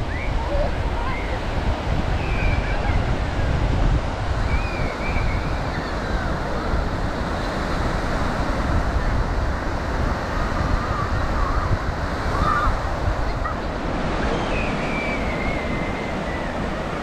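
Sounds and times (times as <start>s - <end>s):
ocean surf washing on beach: 0.0s - 17.0s
wind buffeting microphone: 0.0s - 17.0s.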